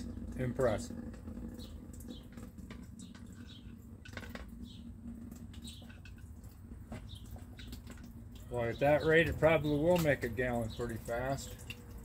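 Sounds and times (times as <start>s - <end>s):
birds chirping: 0.0s - 12.0s
filtered water dripping into cooler: 0.0s - 12.0s.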